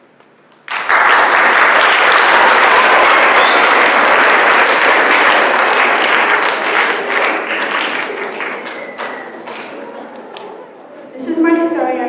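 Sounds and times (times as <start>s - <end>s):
audience applauding: 0.6s - 11.2s.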